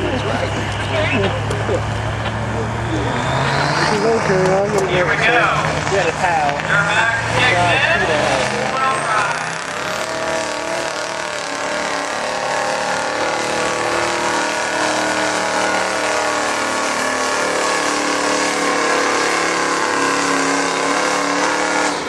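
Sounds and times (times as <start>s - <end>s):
diesel engine at high revs: 0.0s - 22.0s.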